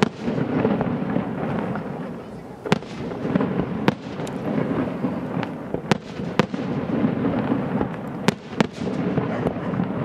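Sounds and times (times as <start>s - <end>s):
fireworks bangs: 0.0s - 10.0s
fireworks crackle: 0.0s - 10.0s.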